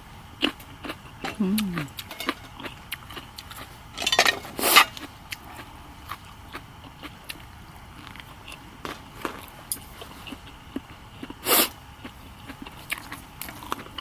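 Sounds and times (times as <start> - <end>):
crunchy bites and chewing: 0.4 - 14.0.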